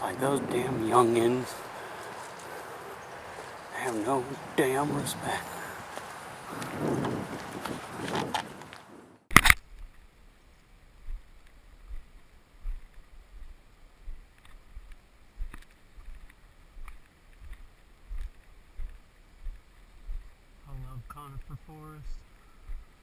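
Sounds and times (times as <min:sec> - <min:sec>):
footsteps on trail: 0:00.0 - 0:09.0, 0:11.0 - 0:20.4, 0:22.2 - 0:23.0.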